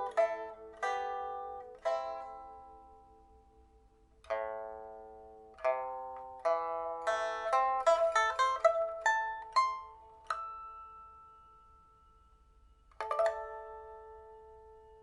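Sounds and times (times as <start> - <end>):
pipa plucked notes: 0.0 - 15.0.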